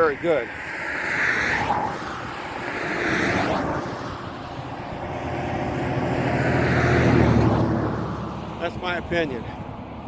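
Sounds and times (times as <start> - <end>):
tractor engine drone: 0.0 - 10.0
tyre noise of passing vehicle: 0.0 - 10.0.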